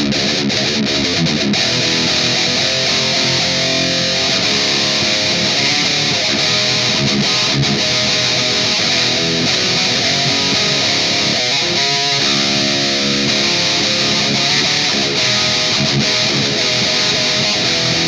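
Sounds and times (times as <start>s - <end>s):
distorted electric guitar riffing: 0.0s - 18.0s.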